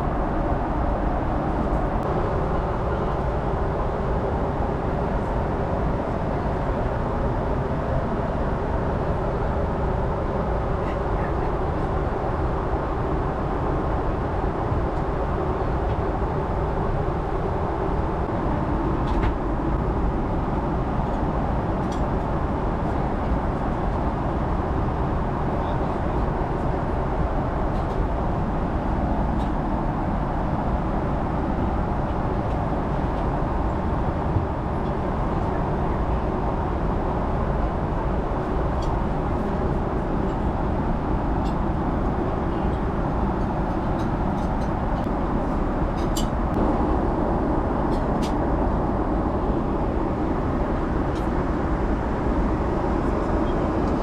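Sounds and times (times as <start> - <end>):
jet engine rumble in cabin: 0.0 - 54.0.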